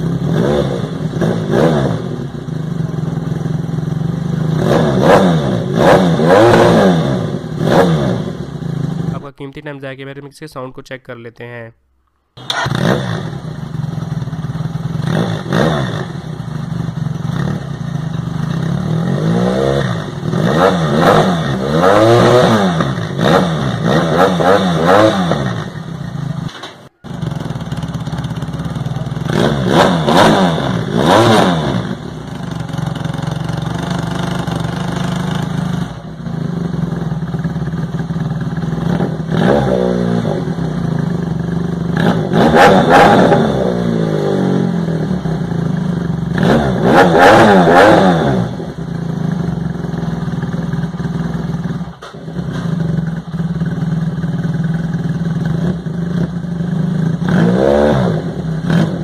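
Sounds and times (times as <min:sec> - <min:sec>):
motorcycle engine idling and revving: 0:00.0 - 0:09.4, 0:12.4 - 0:59.0.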